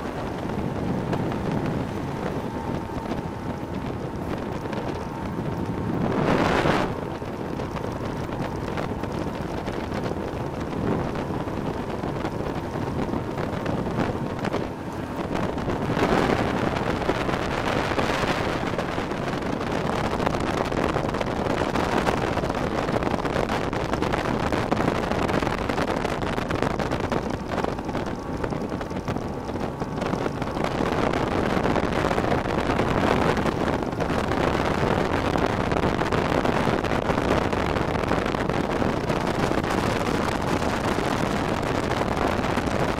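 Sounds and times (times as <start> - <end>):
outboard motor droning: 0.0 - 42.9
wind rushing over microphone: 0.0 - 42.9.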